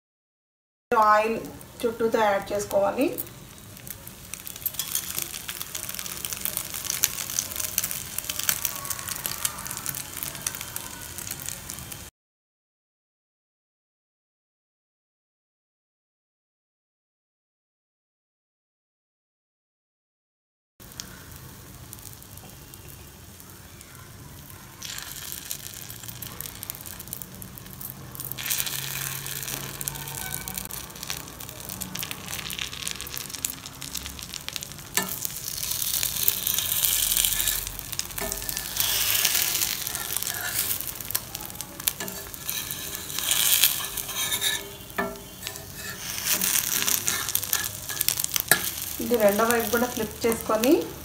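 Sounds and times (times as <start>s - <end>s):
omelette sizzling in hot oil: 1.1s - 12.1s, 20.8s - 51.0s.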